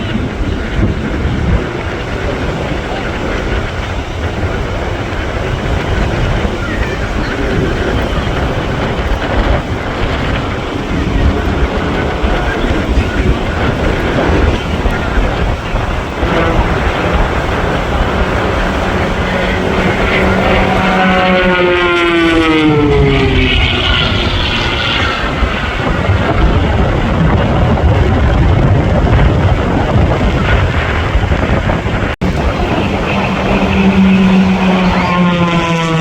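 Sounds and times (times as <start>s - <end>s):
aircraft engine passing: 0.0s - 36.0s
whine dropping in pitch: 0.0s - 36.0s.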